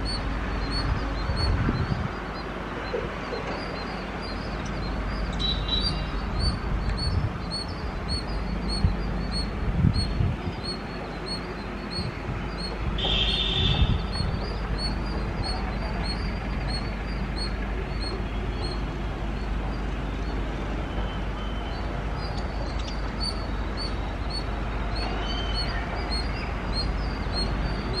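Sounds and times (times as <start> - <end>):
motorcycle engines rumbling: 0.0 - 28.0.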